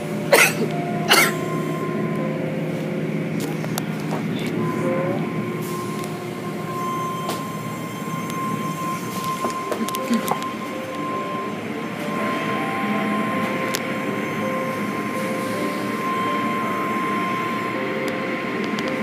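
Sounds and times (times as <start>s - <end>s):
car wash machinery rumble: 0.0s - 19.0s
high whine: 0.0s - 19.0s.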